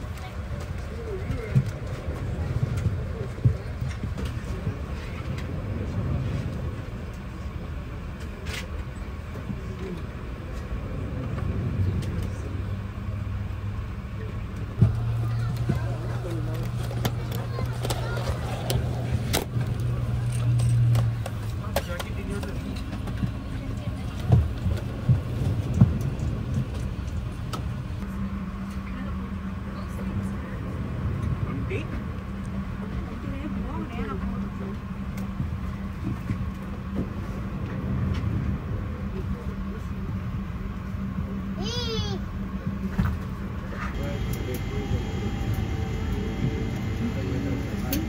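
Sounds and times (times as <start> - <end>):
airplane cabin low rumble: 0.0 - 48.0
faint voices: 0.0 - 48.0.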